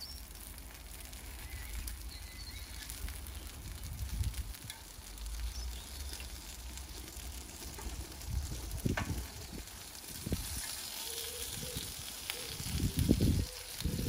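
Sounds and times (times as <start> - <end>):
meat sizzling on grill: 0.0 - 14.0
low uneven rumble: 0.4 - 14.0.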